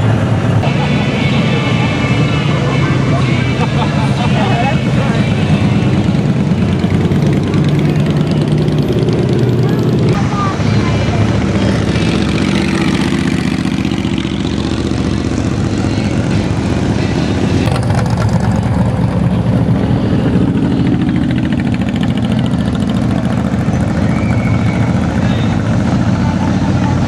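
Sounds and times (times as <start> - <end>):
car engines rumbling: 0.0 - 27.0.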